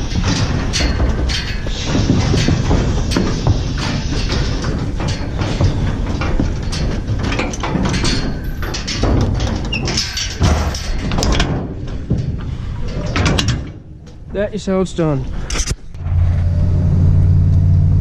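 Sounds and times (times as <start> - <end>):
hooves knocking on metal: 0.0 - 15.7
trailer panels and gates rattling: 0.0 - 17.4
steady low rumble: 0.0 - 18.0.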